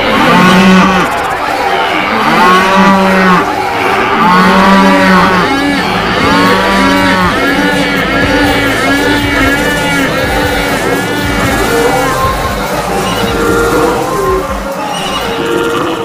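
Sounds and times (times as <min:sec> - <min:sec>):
cattle mooing: 0:00.0 - 0:16.0
higher arching calls: 0:00.0 - 0:16.0.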